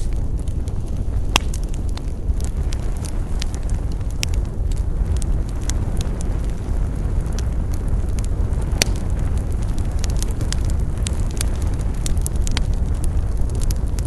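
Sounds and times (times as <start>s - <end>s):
burning wood crackles and pops: 0.0s - 14.0s
campfire low rush: 0.0s - 14.0s.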